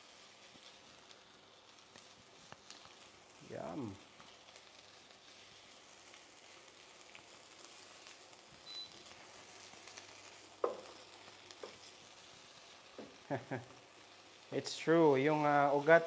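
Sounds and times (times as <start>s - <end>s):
onions sizzling in a pot: 0.0s - 16.0s.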